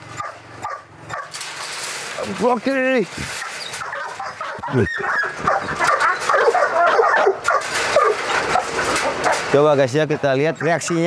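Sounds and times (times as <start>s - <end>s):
dogs barking and yelping: 0.0s - 2.4s, 3.2s - 9.6s, 10.5s - 11.0s
knocks and rattles on metal cage: 0.0s - 9.8s.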